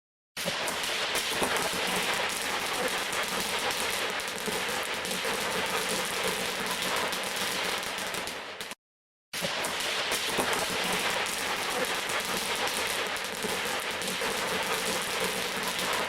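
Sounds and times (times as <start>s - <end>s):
fireworks crackling: 0.4s - 8.8s, 9.4s - 16.0s.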